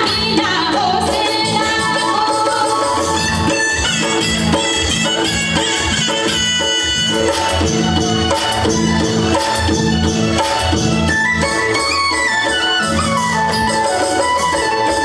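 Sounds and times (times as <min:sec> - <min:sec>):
percussion steady rhythm: 0:00.0 - 0:15.0
folk melody instrument: 0:00.3 - 0:15.0.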